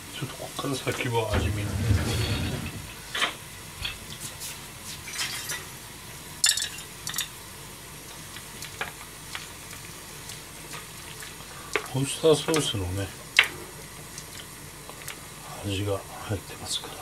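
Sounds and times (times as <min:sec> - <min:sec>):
broth simmering in a pan: 0:00.0 - 0:17.0.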